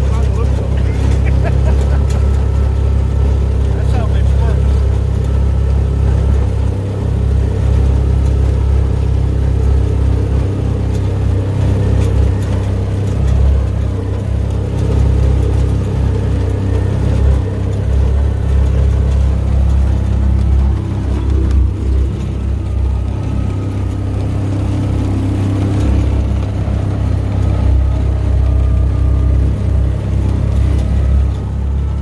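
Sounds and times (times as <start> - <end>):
single-cylinder engine running: 0.0 - 32.0.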